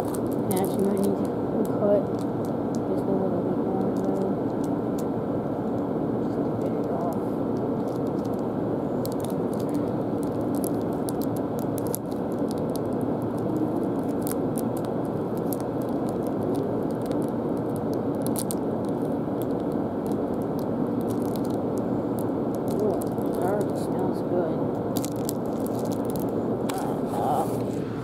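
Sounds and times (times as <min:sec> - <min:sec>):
wrapper crinkling and crackling: 0:00.0 - 0:03.0, 0:03.7 - 0:05.1, 0:06.6 - 0:08.4, 0:09.0 - 0:24.1, 0:24.9 - 0:27.7
steady background noise: 0:00.0 - 0:28.0.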